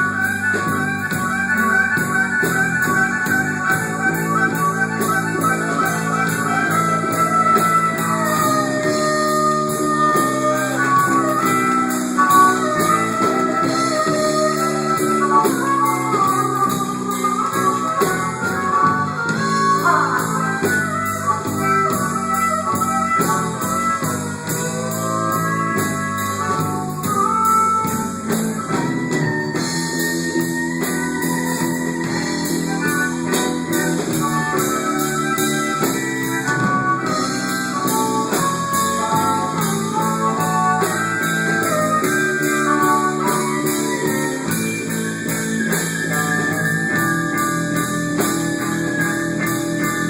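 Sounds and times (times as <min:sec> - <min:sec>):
band music with guitar and drums: 0:00.0 - 0:50.0.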